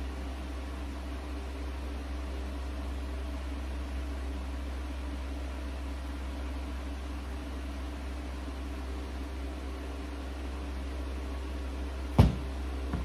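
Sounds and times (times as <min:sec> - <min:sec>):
background hum: 0:00.0 - 0:13.0.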